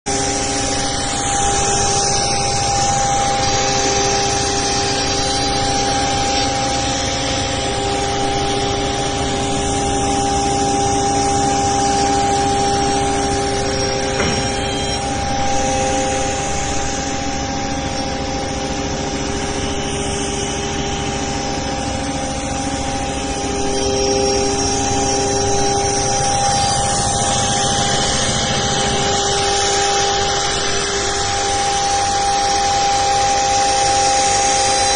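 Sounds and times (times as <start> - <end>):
router spindle tone: 0.1 - 34.9.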